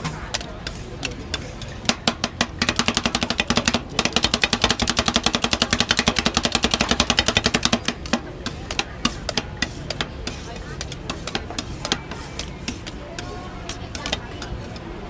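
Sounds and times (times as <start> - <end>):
metal spatulas chopping on metal plate: 0.0 - 14.9.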